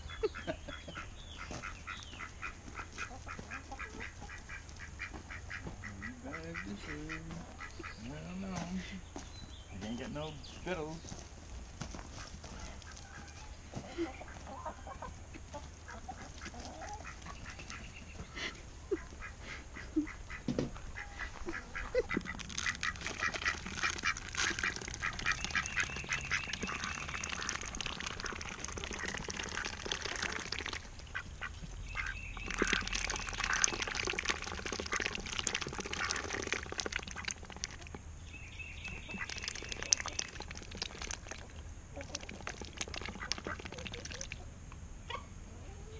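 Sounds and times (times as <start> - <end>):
ducks dabbling in water: 0.0 - 8.3, 13.9 - 44.5
ducks quacking: 0.0 - 9.0, 12.1 - 38.0, 38.8 - 44.4.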